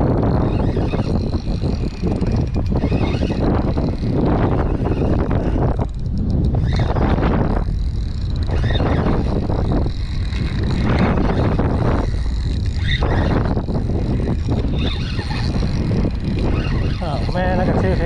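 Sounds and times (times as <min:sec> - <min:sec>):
heavy steady rumble: 0:00.0 - 0:18.0
wind buffeting microphone: 0:00.0 - 0:18.0.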